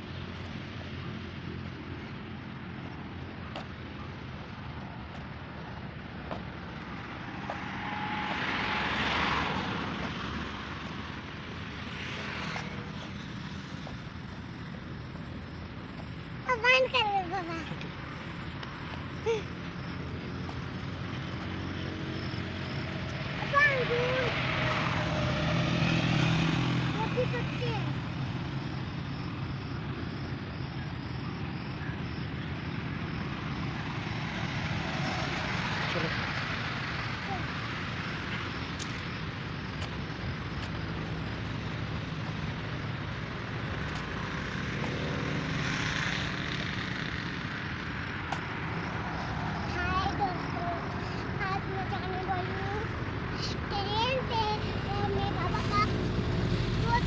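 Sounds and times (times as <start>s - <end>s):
engine drone passing: 0.0s - 57.0s
faint insect chirping: 0.0s - 57.0s.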